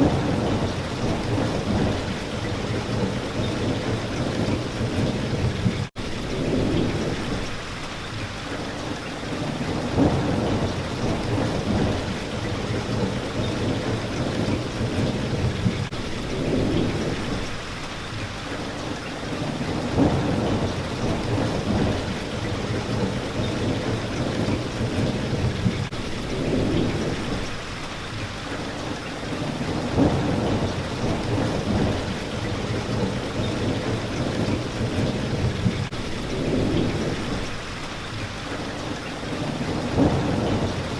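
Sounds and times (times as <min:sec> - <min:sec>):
thunder rumbles: 0:00.0 - 0:07.7, 0:09.3 - 0:18.0, 0:19.3 - 0:28.1, 0:29.2 - 0:38.2, 0:39.2 - 0:40.9
rain hitting a window: 0:00.0 - 0:40.9.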